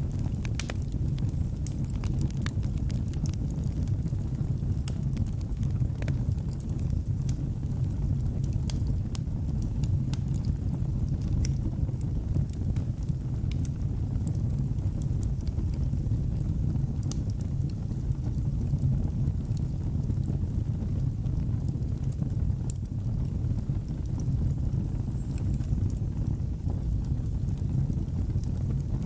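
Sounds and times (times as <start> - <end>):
fire rumble: 0.0 - 29.0
fire pops and clicks: 0.1 - 29.0.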